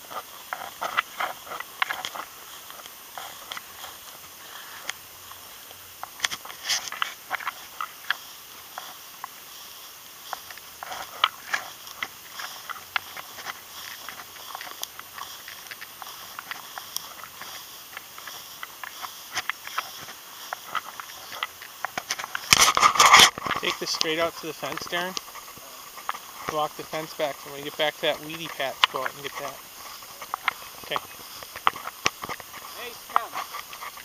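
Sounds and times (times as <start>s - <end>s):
footsteps crunching through dry grass: 0.0s - 34.0s.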